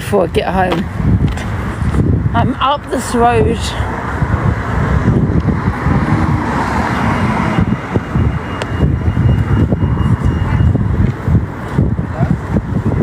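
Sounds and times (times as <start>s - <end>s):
street traffic: 0.0s - 13.0s
wind buffeting microphone: 0.0s - 13.0s.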